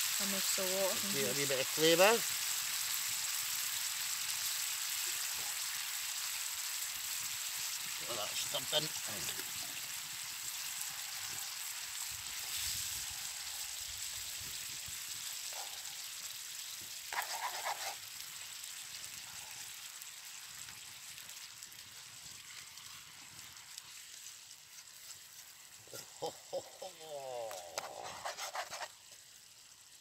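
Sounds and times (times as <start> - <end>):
sauce sizzling and bubbling: 0.0 - 30.0.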